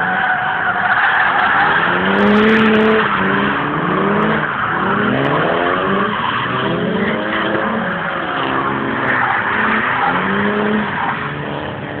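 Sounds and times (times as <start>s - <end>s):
car engine revving: 0.0s - 12.0s
tyres squealing on tarmac: 0.0s - 12.0s.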